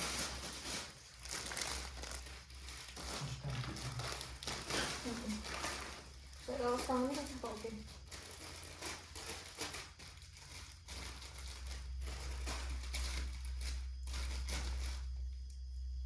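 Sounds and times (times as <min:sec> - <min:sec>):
plastic packaging crinkling: 0:00.0 - 0:15.5.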